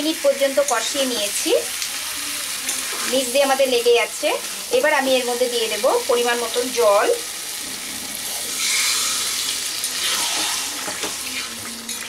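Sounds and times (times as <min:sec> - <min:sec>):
water sizzling in hot pan: 0:00.0 - 0:12.0.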